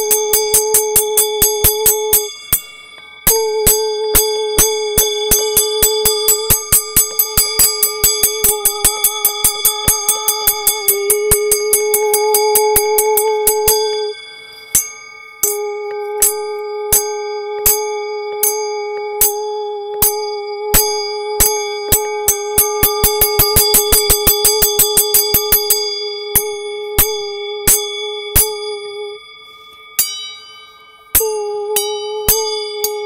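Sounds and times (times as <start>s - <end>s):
steady pitched tone: 0.0s - 33.0s.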